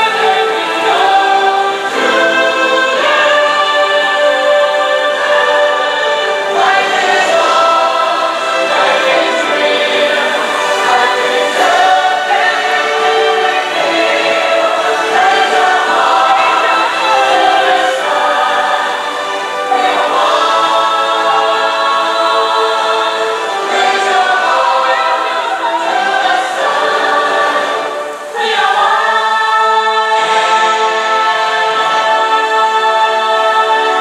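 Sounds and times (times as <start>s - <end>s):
choir singing held chords: 0.0s - 34.0s.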